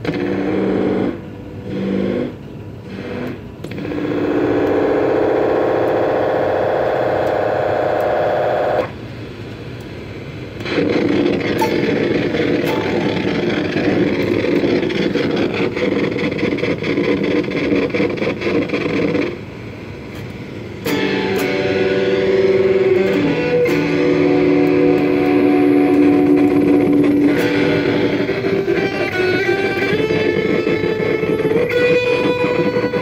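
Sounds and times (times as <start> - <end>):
electric guitar through flanger: 0.0 - 9.0, 10.6 - 19.4, 20.7 - 33.0.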